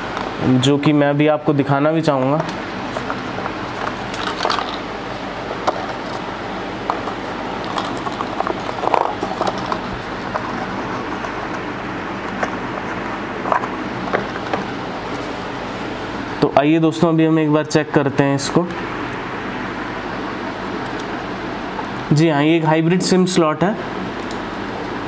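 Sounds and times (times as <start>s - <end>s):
mechanical room hum: 0.0s - 25.0s.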